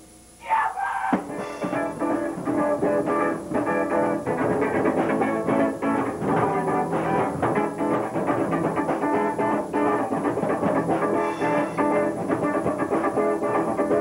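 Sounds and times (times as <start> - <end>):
quickly picked guitar: 1.1 - 14.0
rock band music: 1.1 - 14.0.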